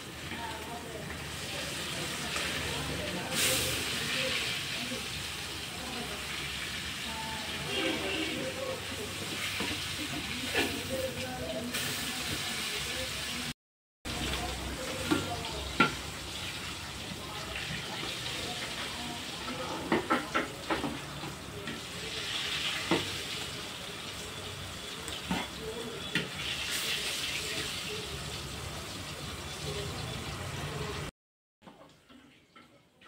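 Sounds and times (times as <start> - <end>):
fish sizzling in hot oil: 0.0 - 31.1.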